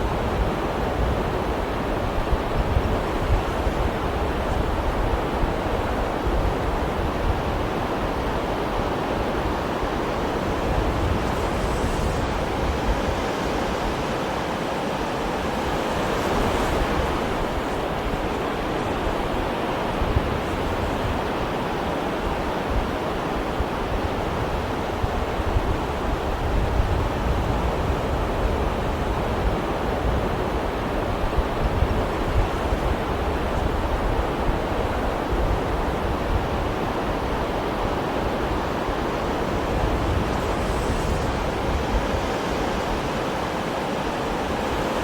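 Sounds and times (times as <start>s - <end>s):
waves washing: 0.0s - 45.0s.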